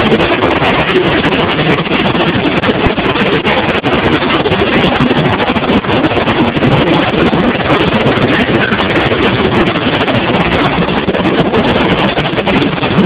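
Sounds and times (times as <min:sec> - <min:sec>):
motorcycle engines running rough: 0:00.0 - 0:13.0.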